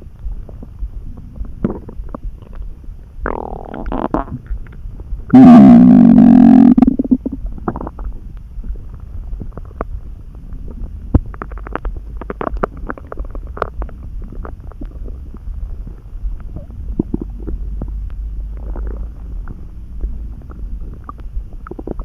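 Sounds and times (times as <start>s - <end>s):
steady low rumble: 0.0s - 22.0s
stomach growling: 0.0s - 22.0s
stomach gurgles and pops: 0.0s - 22.0s.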